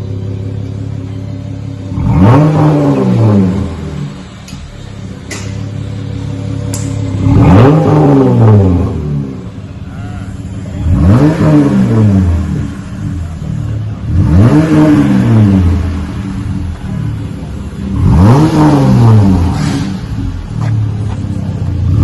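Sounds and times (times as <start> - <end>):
engine exhaust idling and revving: 0.0 - 22.0.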